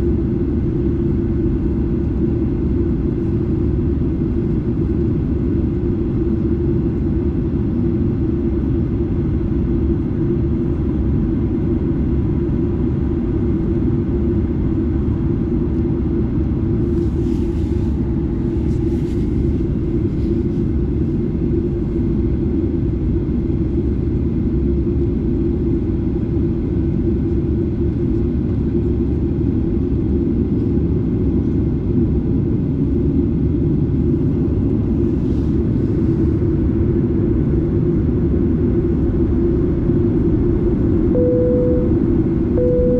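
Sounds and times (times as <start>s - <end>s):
aircraft cabin engine noise: 0.0s - 42.9s.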